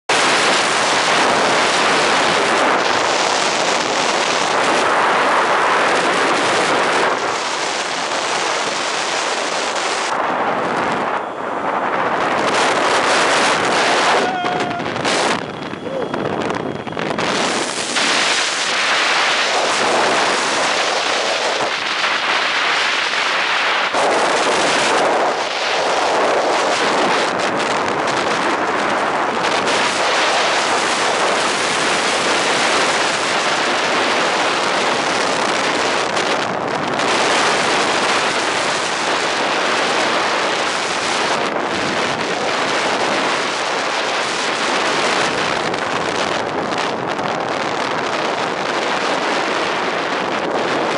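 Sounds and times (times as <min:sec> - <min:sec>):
wind buffeting microphone: 0:00.1 - 0:50.9.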